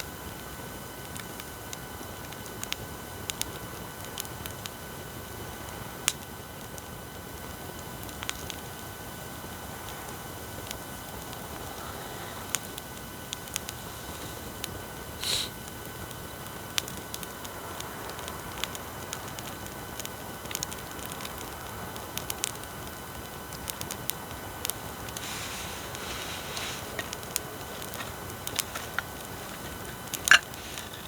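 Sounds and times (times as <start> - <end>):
bonfire crackling and popping: 0.0 - 31.0
recording equipment hiss: 0.0 - 31.0.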